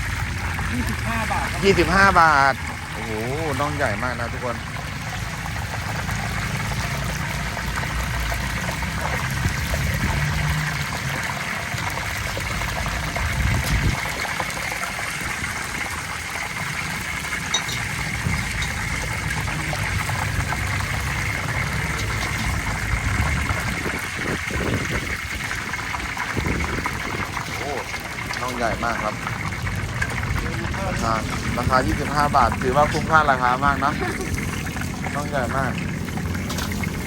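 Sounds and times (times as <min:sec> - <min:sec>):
chicken deep-frying in oil: 0:00.0 - 0:37.0.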